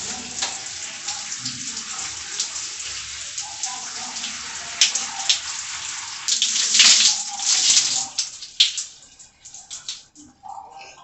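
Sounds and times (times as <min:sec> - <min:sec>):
water running and splashing: 0:00.0 - 0:10.2.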